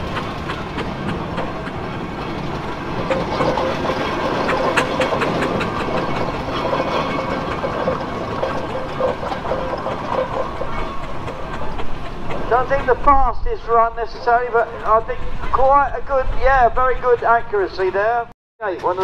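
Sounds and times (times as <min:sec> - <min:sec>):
engine exhaust beats: 0:00.0 - 0:18.3.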